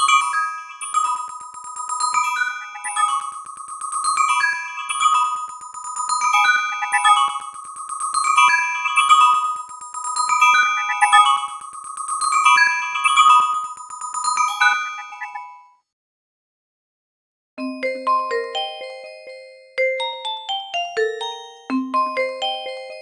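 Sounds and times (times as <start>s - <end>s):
phone ringtone marimba melody: 0.0s - 15.6s, 17.6s - 23.0s.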